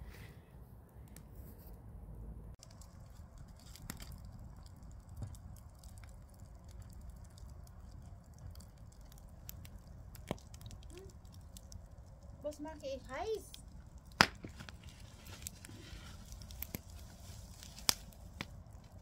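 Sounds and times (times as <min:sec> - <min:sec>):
campfire crackling and popping: 0:02.5 - 0:19.0.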